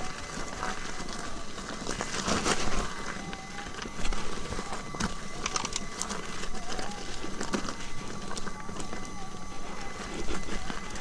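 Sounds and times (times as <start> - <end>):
thin steady whine: 0.0 - 11.0
tyre crunching over gravel: 0.0 - 11.0.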